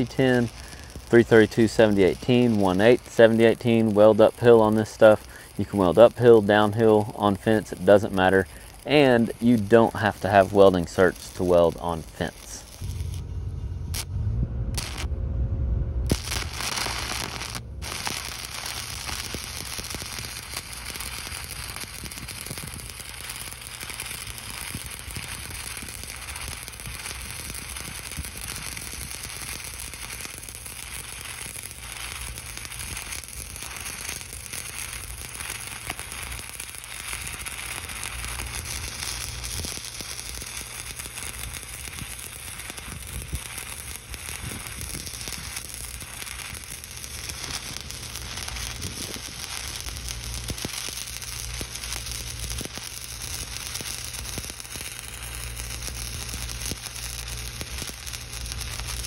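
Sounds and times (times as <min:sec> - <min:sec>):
welding arc crackling sizzle: 0:00.0 - 0:15.1, 0:16.0 - 0:59.0.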